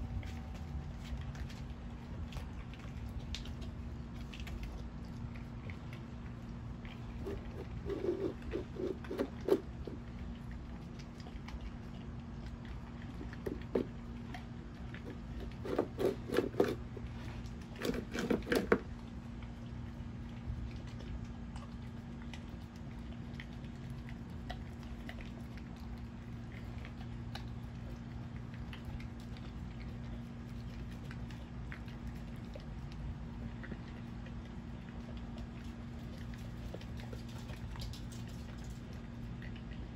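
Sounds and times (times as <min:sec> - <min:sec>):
dog chewing and crunching food: 0:00.0 - 0:39.9
steady low hum: 0:00.0 - 0:39.9.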